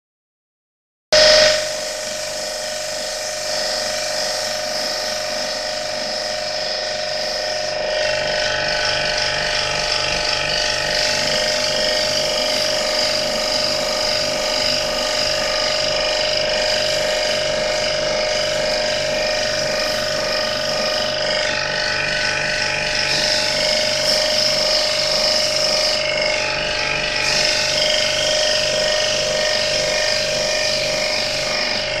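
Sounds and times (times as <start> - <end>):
pressure washer pump running: 1.2 - 32.0.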